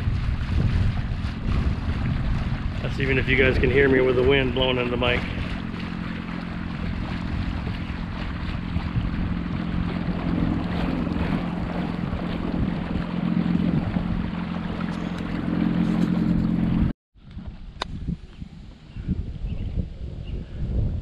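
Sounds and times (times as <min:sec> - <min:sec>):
electric motor hum: 0:00.0 - 0:16.9
water splashing along hull: 0:00.0 - 0:17.5
wind buffeting microphone: 0:00.0 - 0:21.0.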